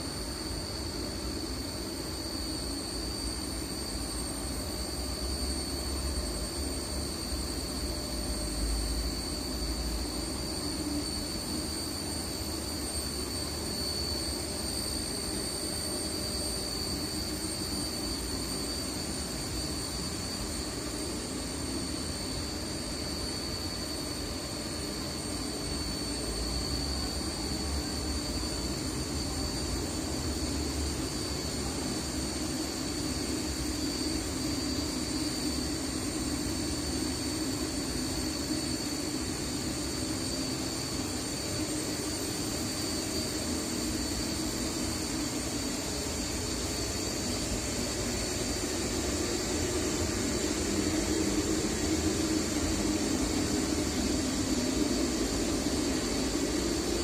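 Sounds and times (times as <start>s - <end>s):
thin high whine: 0.0s - 57.0s.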